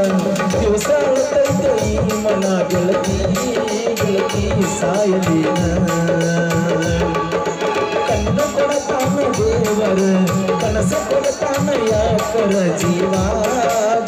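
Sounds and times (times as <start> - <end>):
hand-played barrel drum beat: 0.0 - 14.0
keyboard: 0.0 - 14.0
man singing into a microphone: 0.0 - 14.0.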